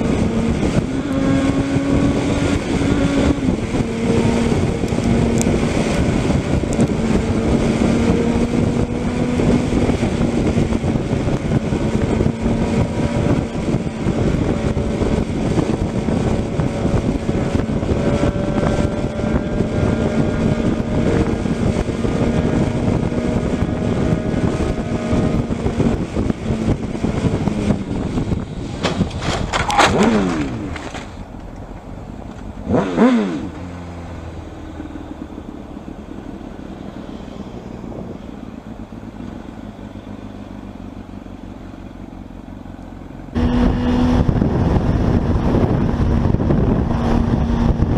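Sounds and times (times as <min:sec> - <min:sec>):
engine drone: 0:00.0 - 0:47.9
road and wind noise: 0:00.0 - 0:47.9.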